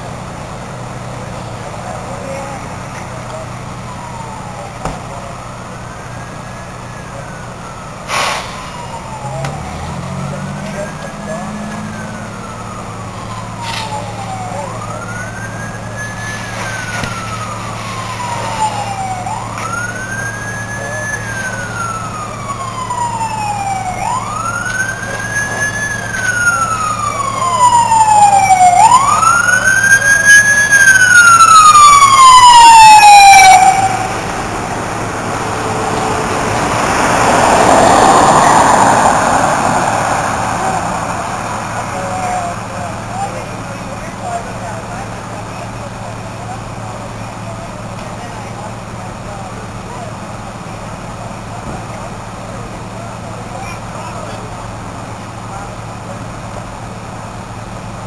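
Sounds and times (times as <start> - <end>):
fire truck siren wailing: 0.0 - 58.0.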